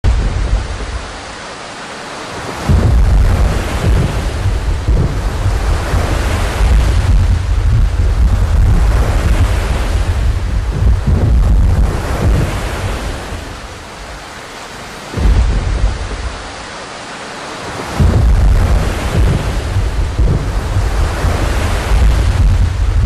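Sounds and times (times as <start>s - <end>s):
deep rumbles: 0.0s - 1.2s, 2.7s - 14.1s, 15.1s - 16.6s, 18.0s - 23.0s.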